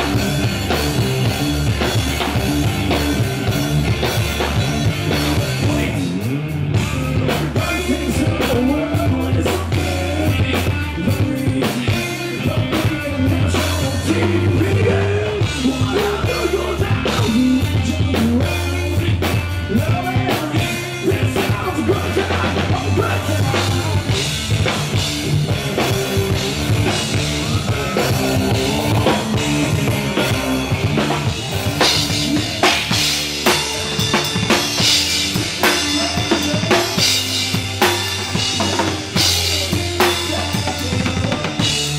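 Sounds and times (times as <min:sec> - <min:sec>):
drums and cymbals: 0:00.0 - 0:41.9
rock band playing live: 0:00.0 - 0:41.9
man singing: 0:05.1 - 0:41.9.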